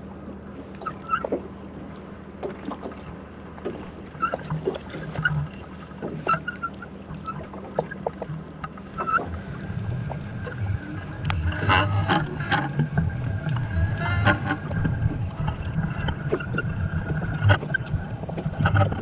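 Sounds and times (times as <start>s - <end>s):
low underwater rumble: 0.0s - 19.0s
underwater clicks and knocks: 0.8s - 1.5s, 2.4s - 19.0s.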